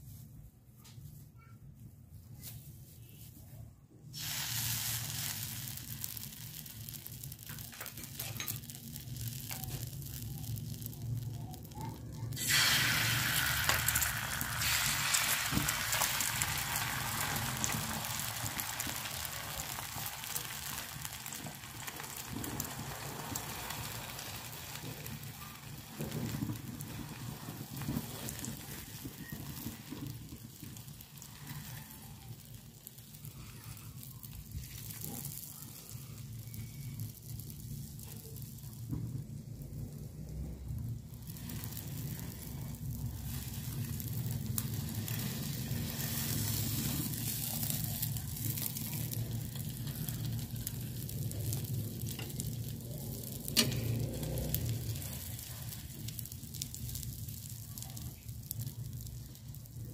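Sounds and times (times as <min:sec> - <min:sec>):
egg sizzling in oil: 0:04.1 - 0:59.9.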